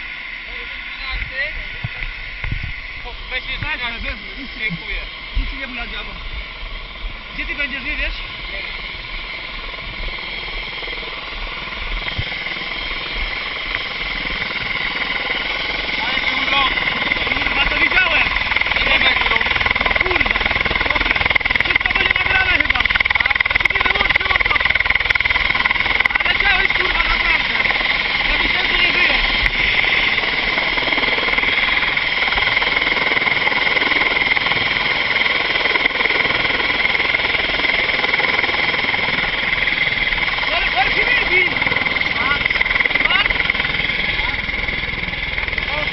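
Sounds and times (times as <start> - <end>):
helicopter rotor beat: 0.0 - 45.9
helicopter turbine whine: 0.0 - 45.9.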